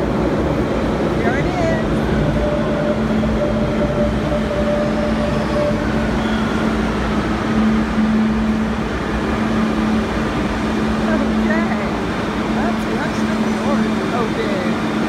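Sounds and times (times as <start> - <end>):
metro train hum and rumble: 0.0 - 15.0
high steady tone: 0.6 - 15.0.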